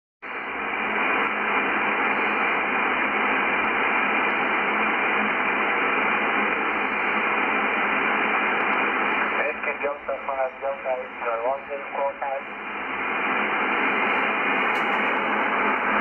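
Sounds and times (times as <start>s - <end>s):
shortwave radio hiss: 0.3s - 16.0s.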